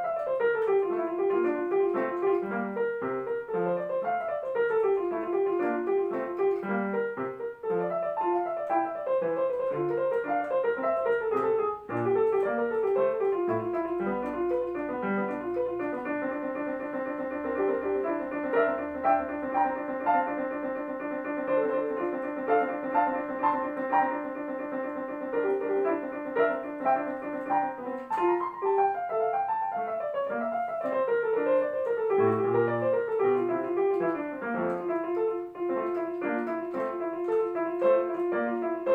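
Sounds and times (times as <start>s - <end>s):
fast classical piano piece: 0.0s - 38.9s.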